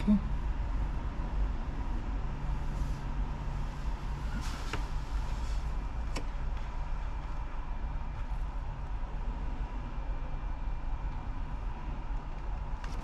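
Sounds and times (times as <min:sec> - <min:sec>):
car cabin engine rumble: 0:00.0 - 0:13.0.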